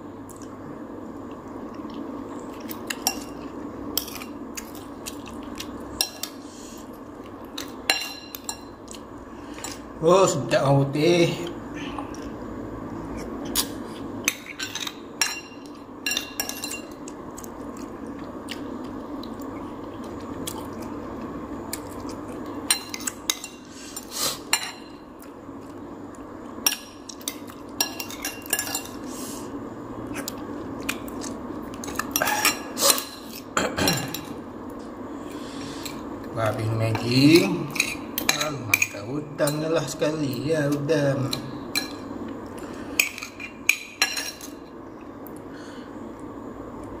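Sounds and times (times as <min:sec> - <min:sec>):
low background noise: 0:00.0 - 0:47.0.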